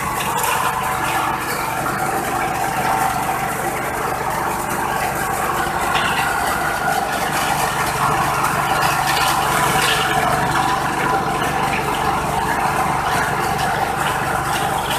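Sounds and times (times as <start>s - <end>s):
disk mill grinding grain: 0.0s - 14.9s.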